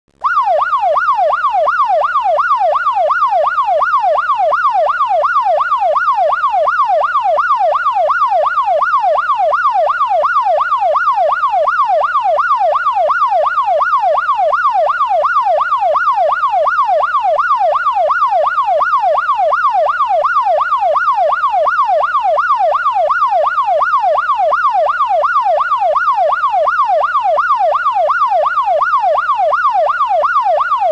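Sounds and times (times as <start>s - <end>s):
police siren yelping: 0.2s - 30.9s.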